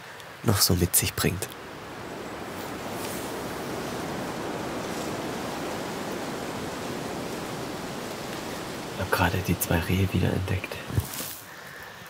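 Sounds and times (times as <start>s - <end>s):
strong wind through forest: 0.0s - 12.0s.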